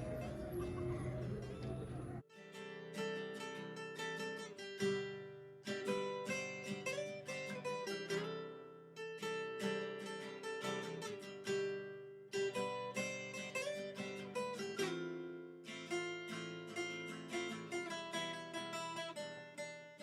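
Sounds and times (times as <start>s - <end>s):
acoustic guitar plucked chords: 0.0s - 20.0s.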